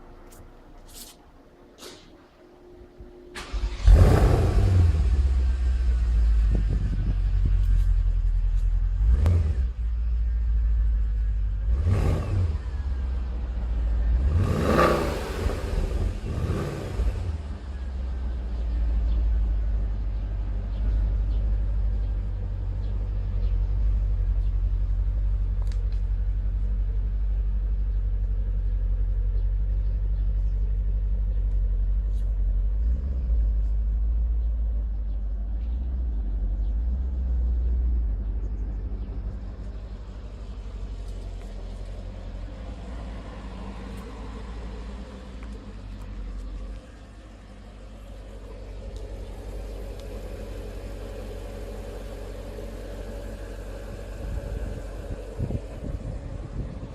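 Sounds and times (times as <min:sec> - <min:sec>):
car engine deep rumble: 0:00.0 - 0:56.9.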